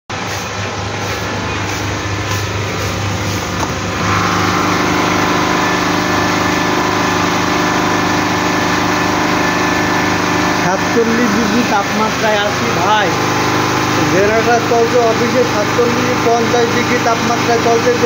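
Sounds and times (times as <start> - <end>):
generator engine humming: 0.1 - 18.0.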